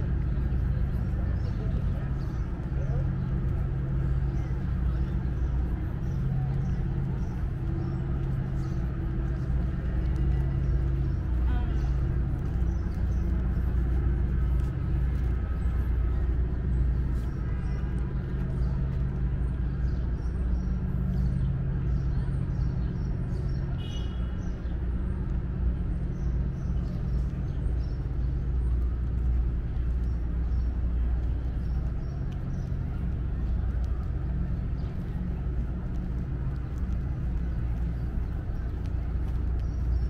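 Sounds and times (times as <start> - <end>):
city background noise: 0.0 - 40.0
engine idling hum: 0.0 - 40.0.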